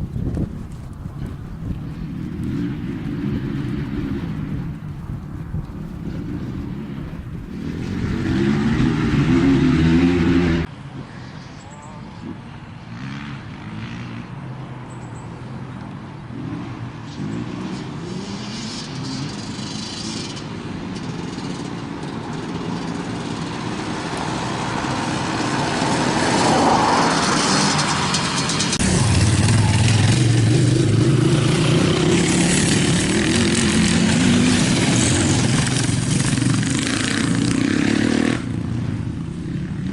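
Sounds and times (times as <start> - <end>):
off-road engines revving: 1.2 - 10.7, 15.8 - 39.9.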